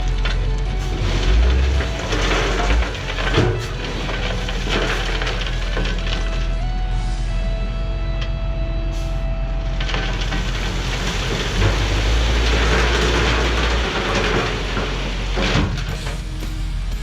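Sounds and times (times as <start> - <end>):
crushing concrete rock: 0.0 - 7.0, 9.6 - 16.3
diesel engine running: 0.0 - 17.0.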